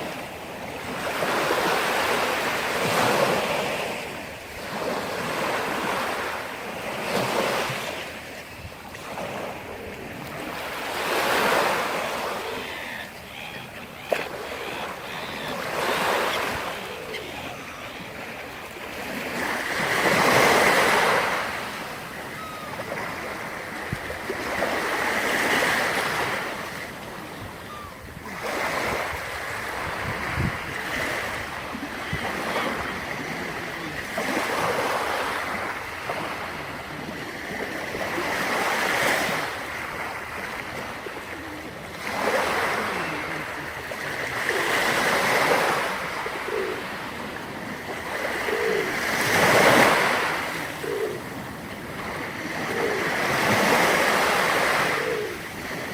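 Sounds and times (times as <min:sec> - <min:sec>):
waves breaking on shore: 0:00.0 - 0:55.9.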